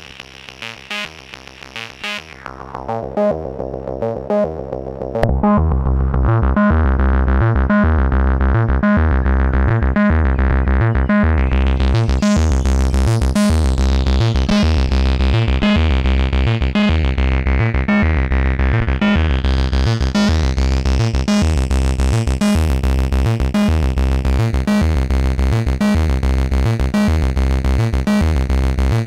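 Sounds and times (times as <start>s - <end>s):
distorted synthesizer bass sequence: 0.0s - 29.0s.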